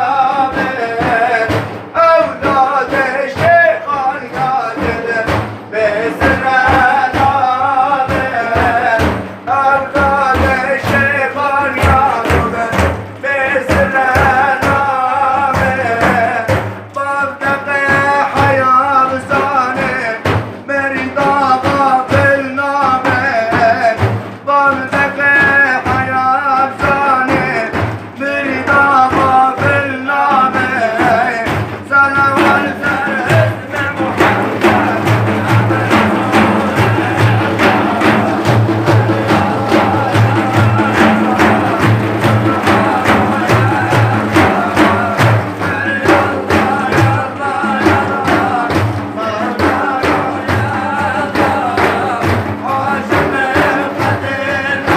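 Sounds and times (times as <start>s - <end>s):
man chanting: 0.0s - 54.9s
percussion beat: 0.0s - 54.9s.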